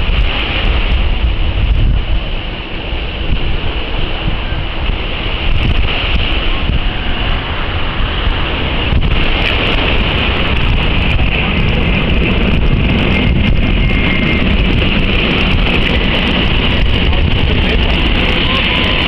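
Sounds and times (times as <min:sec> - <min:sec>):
jet engine roar: 0:00.0 - 0:19.0
wind buffeting microphone: 0:00.0 - 0:19.0.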